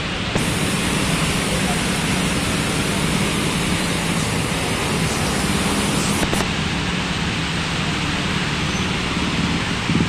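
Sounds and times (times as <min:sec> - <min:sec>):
vehicle engines humming: 0:00.0 - 0:10.0
water sprayed by wheels: 0:00.0 - 0:10.0.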